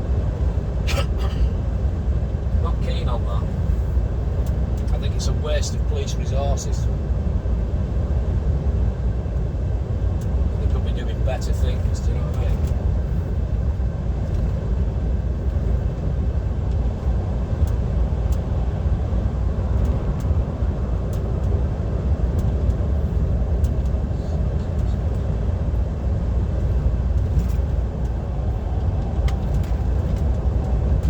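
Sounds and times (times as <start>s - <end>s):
low engine and road rumble: 0.0s - 31.0s.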